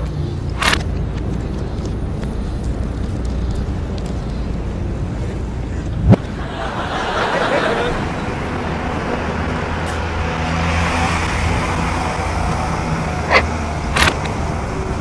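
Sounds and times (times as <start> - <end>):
motor vehicle running: 0.0 - 15.0
road traffic noise: 0.0 - 15.0.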